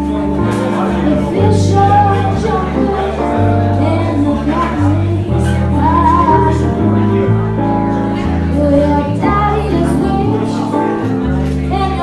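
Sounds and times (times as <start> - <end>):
bass line: 0.0 - 12.0
keyboard: 0.0 - 12.0
woman singing: 0.9 - 7.2, 8.5 - 12.0.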